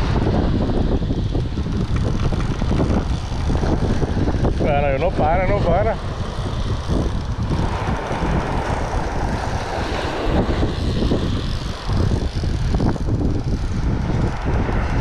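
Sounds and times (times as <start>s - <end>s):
wind buffeting microphone: 0.0s - 15.0s
waves breaking on sandy beach: 1.8s - 15.0s.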